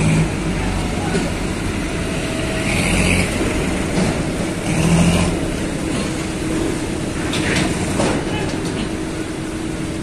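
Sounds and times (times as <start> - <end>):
diesel tractor engines running: 0.0 - 10.0.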